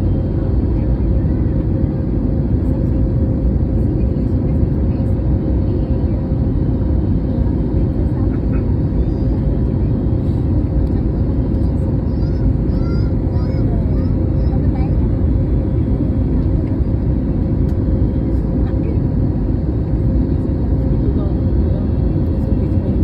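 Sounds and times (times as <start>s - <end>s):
constant hum tone: 0.0s - 23.0s
jet engines and rushing air: 0.0s - 23.0s.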